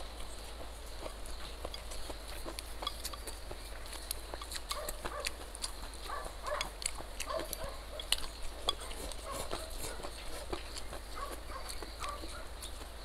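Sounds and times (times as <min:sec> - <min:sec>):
person chewing and smacking: 0:00.0 - 0:13.0.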